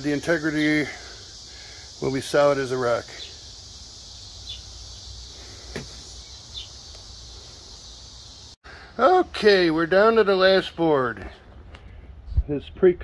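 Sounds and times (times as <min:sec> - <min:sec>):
insects droning: 0:00.0 - 0:11.1.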